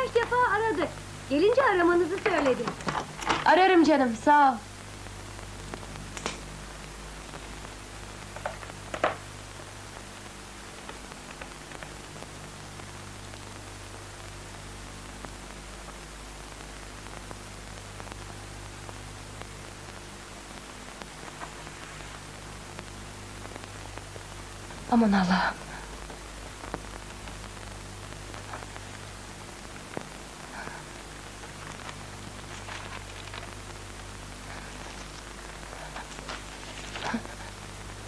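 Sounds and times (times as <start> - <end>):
film soundtrack hiss and hum: 0.0 - 38.0.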